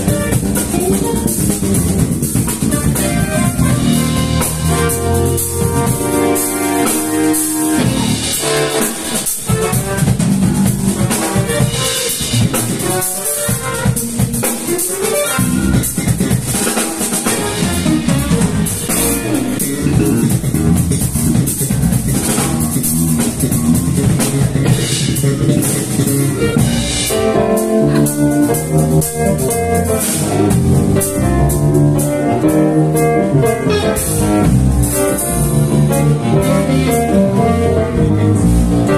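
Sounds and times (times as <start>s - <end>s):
drum kit beat: 0.0s - 38.9s
live funk band playing: 0.0s - 38.9s.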